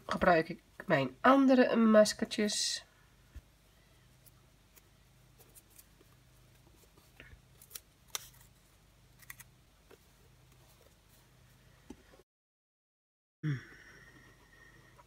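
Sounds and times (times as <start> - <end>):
low steady hum: 0.0 - 12.2.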